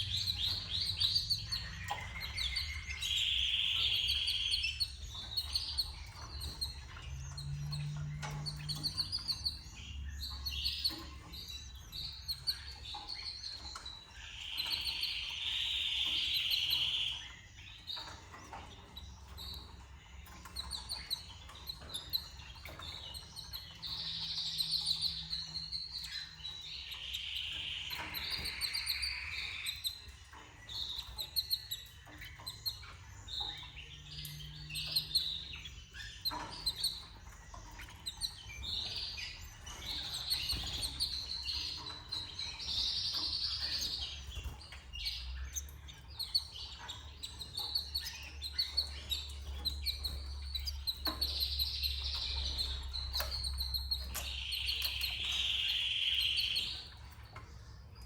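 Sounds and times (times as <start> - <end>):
canaries chirping and trilling: 0.0 - 58.0.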